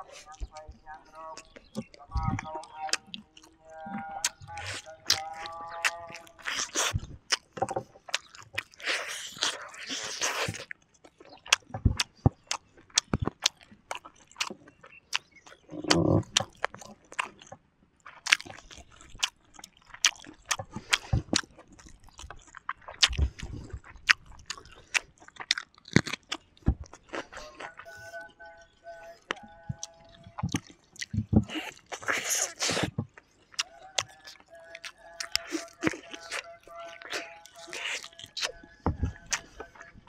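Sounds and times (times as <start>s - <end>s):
wet mouth clicks and crunches: 0.0s - 28.0s, 29.2s - 39.9s
biting and chewing: 0.0s - 40.0s.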